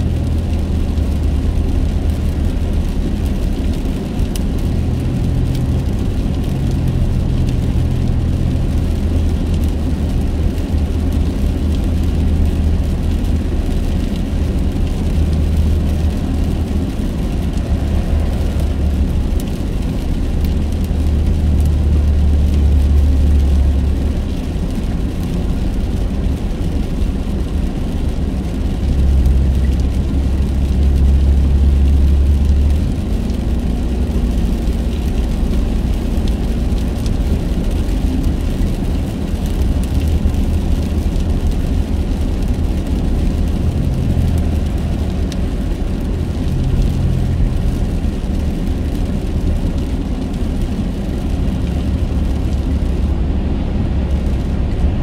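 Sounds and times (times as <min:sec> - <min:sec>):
car engine and tyre rumble: 0:00.0 - 0:55.0
tyres hissing on wet road: 0:00.0 - 0:55.0.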